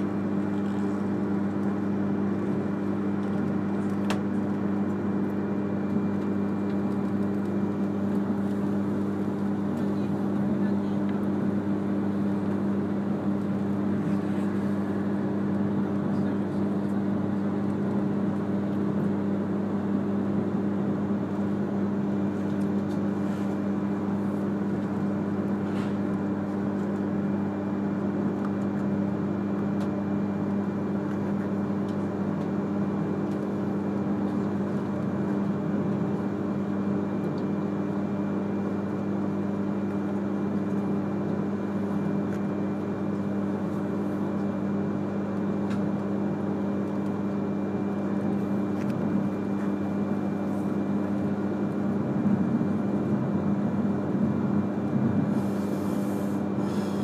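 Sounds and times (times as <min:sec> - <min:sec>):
constant low hum: 0:00.0 - 0:57.0.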